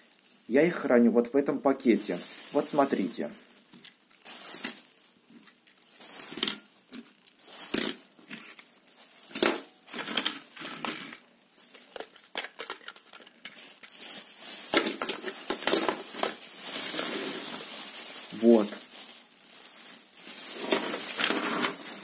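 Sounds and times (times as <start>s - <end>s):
plastic bag crinkling: 0.0s - 1.1s, 1.7s - 22.0s.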